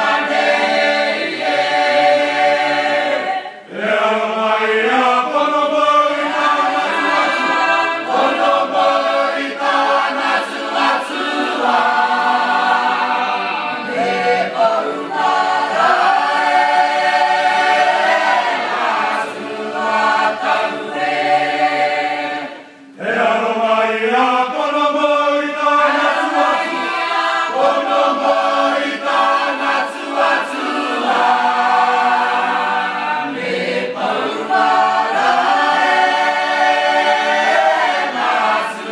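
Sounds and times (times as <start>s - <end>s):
group singing a cappella hymn: 0.0s - 38.9s.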